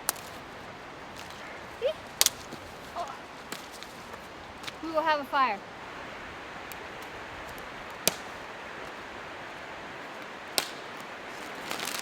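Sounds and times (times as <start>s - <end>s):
burning wood popping: 0.0s - 4.9s, 6.6s - 12.0s
campfire hissing: 0.0s - 12.0s.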